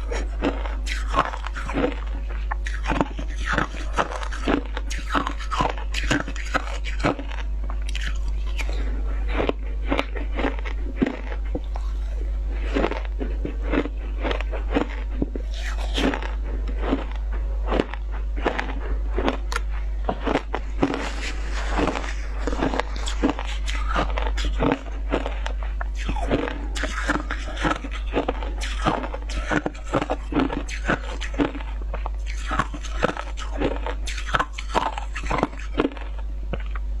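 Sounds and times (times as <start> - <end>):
crunching and chewing ice: 0.0 - 37.0
steady low hum: 0.0 - 37.0.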